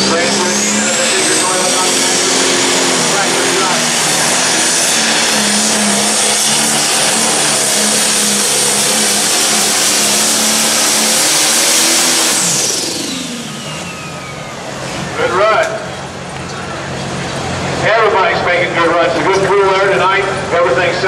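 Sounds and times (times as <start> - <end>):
turbo whine winding down: 0.0 - 18.5
tractor diesel engine under load: 0.0 - 21.0.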